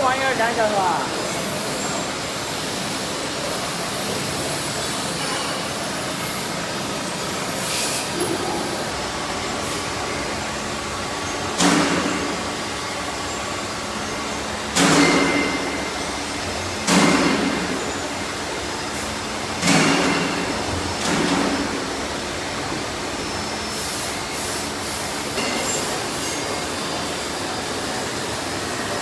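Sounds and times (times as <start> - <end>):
factory machinery noise: 0.0 - 29.0.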